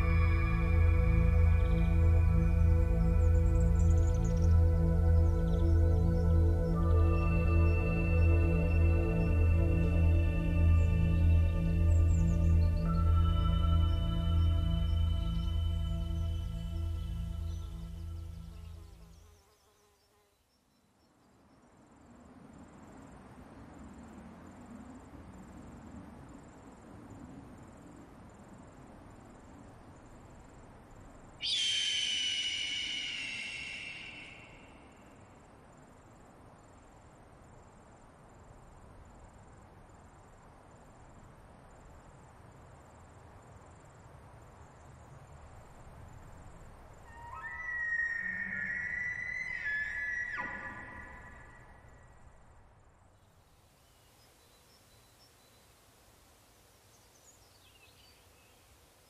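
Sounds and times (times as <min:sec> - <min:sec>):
high-pitched insect call: 0:00.0 - 0:20.8, 0:26.4 - 0:59.0
faint outdoor ambience: 0:00.0 - 0:59.0
insects chirping: 0:00.0 - 0:59.0.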